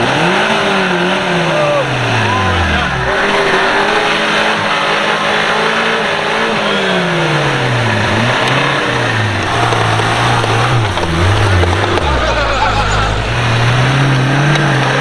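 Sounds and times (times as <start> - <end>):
engine working under load: 0.0 - 15.0
rumble of the drive: 0.0 - 15.0.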